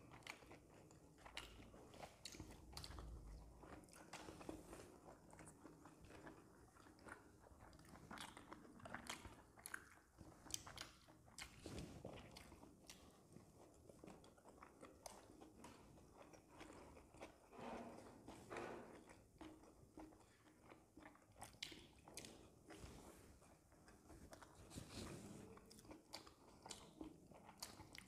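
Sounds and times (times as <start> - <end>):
chewing dumplings: 0.0 - 28.0.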